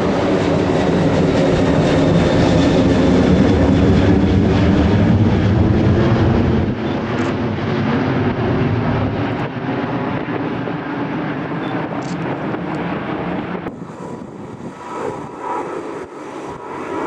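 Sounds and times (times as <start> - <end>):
airliner engine rumble: 0.0 - 17.0.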